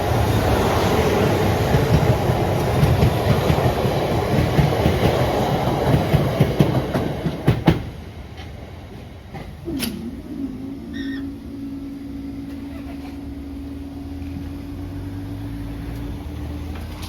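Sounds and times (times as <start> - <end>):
train humming: 0.0 - 17.0.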